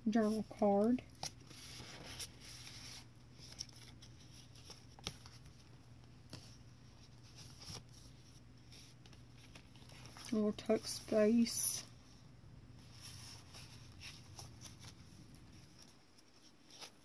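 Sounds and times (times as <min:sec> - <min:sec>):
paper pages rustling: 0:00.2 - 0:11.6, 0:12.8 - 0:17.0.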